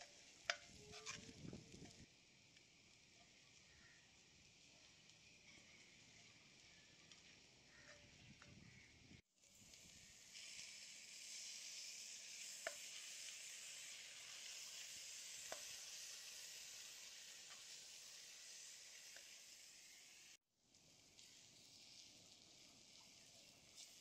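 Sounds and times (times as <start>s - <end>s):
vegetables sizzling in pot: 0.0s - 24.0s.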